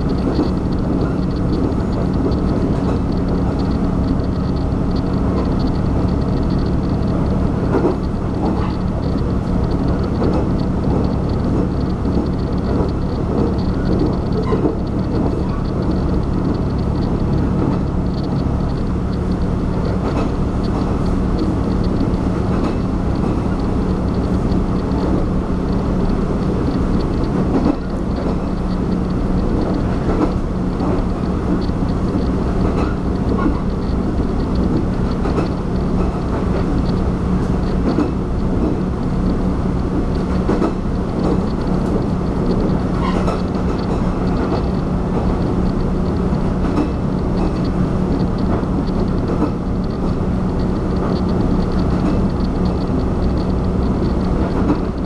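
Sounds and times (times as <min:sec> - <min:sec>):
low engine drone: 0:00.0 - 0:55.0
wheels rumbling on rail: 0:00.0 - 0:55.0.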